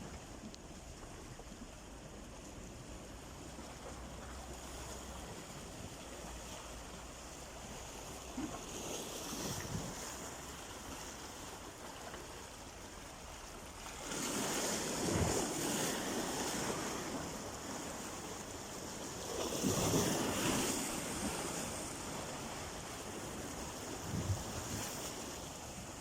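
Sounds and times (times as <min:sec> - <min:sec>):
large waves breaking: 0:00.0 - 0:26.0
sea waves washing on shore: 0:00.0 - 0:26.0.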